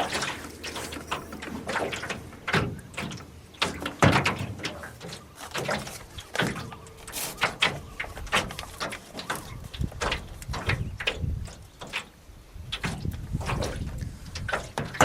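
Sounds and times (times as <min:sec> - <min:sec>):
paddle clunking against canoe hull: 0:00.0 - 0:15.0
paddle splashing water: 0:00.0 - 0:15.0.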